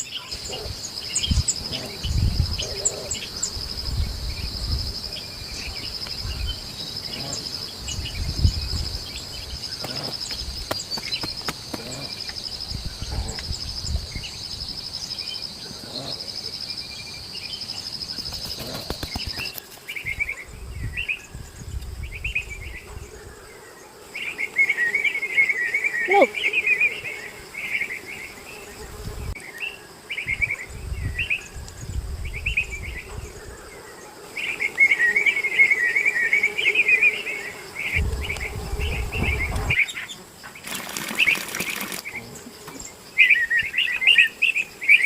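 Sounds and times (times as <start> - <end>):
birds chirping: 0.0 - 45.0
high pulsing insect trill: 0.0 - 45.0.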